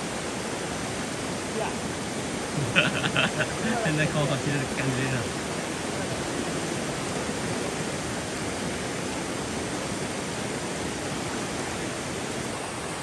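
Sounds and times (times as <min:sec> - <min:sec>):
river rushing around boulder: 0:00.0 - 0:13.0.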